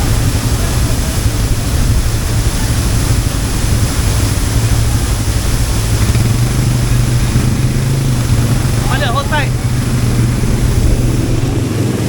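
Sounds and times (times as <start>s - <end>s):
atv engine running: 0.0s - 12.0s
rushing noise: 0.0s - 12.0s.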